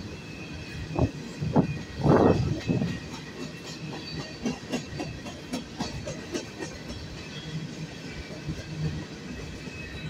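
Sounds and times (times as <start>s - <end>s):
freight train wheel and rail rumble: 0.0s - 10.0s
wheels clicking over rail joints: 1.5s - 9.8s.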